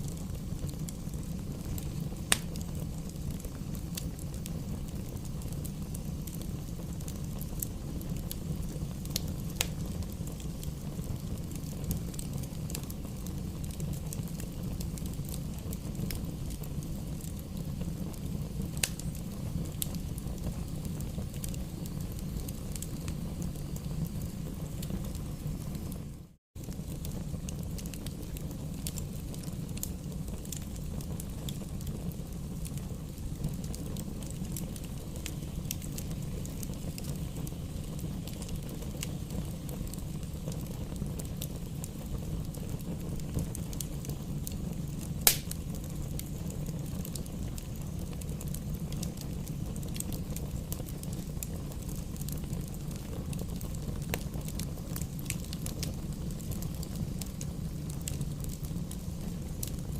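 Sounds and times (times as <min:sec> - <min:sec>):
loud pop of fire: 0:00.0 - 0:04.5, 0:08.3 - 0:26.0, 0:26.6 - 0:59.9
crackles of burning logs: 0:00.0 - 0:59.9
low rumble of flames: 0:00.0 - 0:59.9.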